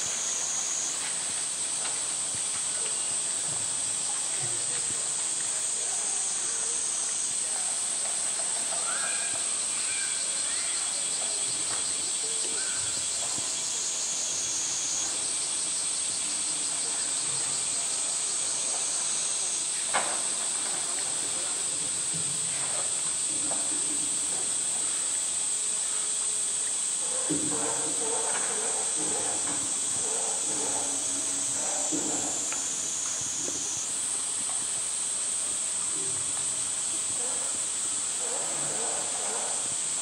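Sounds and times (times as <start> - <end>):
cicadas droning: 0.0 - 40.0.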